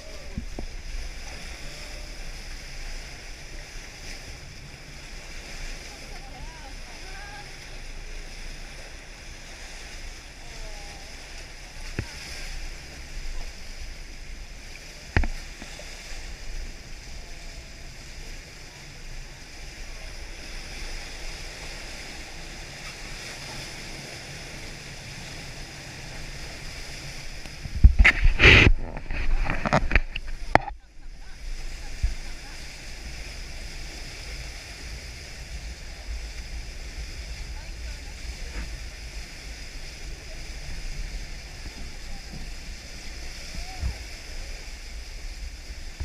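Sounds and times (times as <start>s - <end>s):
motor boat hum: 0.0s - 46.0s
water noise: 0.0s - 46.0s.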